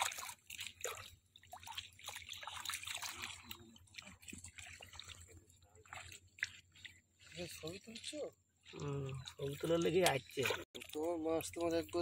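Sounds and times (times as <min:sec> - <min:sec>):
shallow water trickling: 0:00.0 - 0:12.0
small water splashes: 0:00.0 - 0:12.0.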